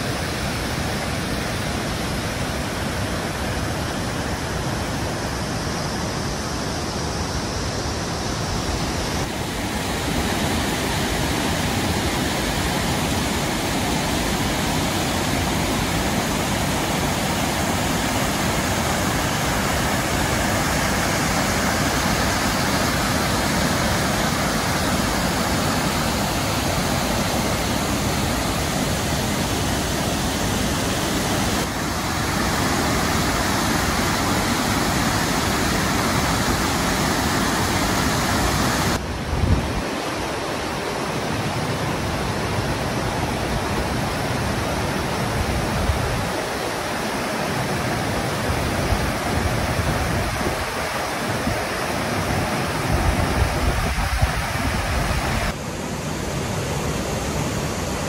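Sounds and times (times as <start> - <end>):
waterfall rushing over rock: 0.0 - 58.0.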